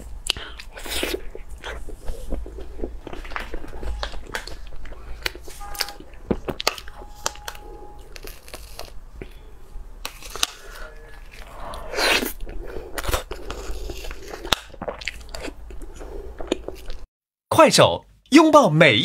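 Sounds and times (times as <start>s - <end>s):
person chewing crunchy food: 0.0s - 17.1s.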